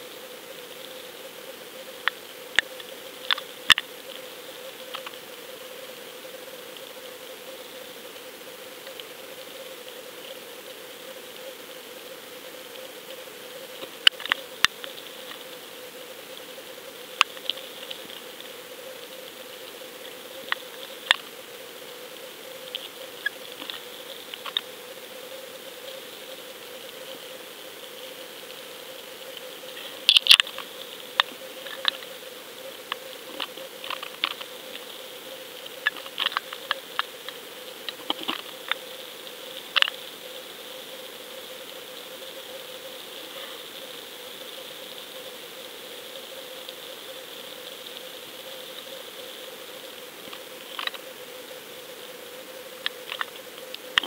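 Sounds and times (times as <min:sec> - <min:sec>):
underwater hum and hiss: 0:00.0 - 0:54.0.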